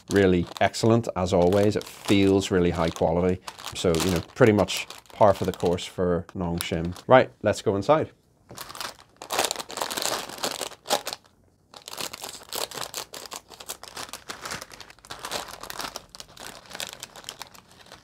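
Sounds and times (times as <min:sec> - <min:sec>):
plastic packet crinkling: 0:00.0 - 0:07.3, 0:08.5 - 0:18.0.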